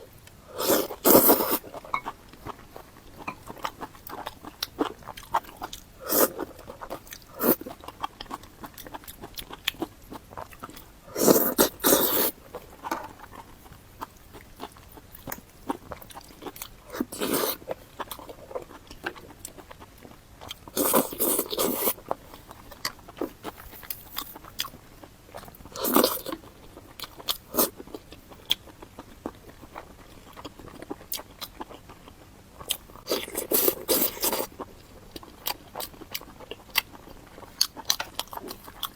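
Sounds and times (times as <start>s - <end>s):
chewing with wet mouth clicks: 1.0s - 38.9s.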